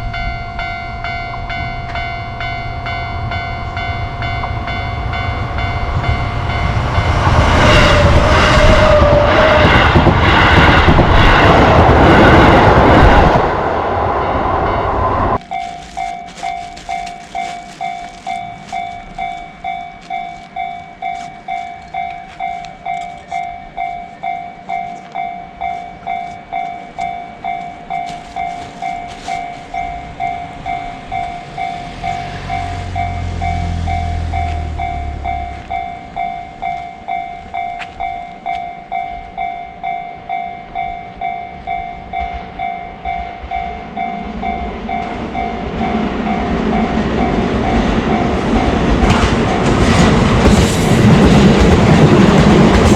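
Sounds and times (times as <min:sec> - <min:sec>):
level crossing warning bells: 0:00.0 - 0:52.9
low rumble of approaching train: 0:00.0 - 0:52.9
train passing loudly: 0:00.0 - 0:52.9.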